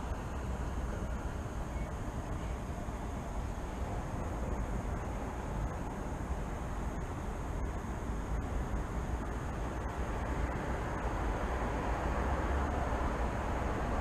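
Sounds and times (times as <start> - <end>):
low rumble of city traffic: 0.0 - 14.0.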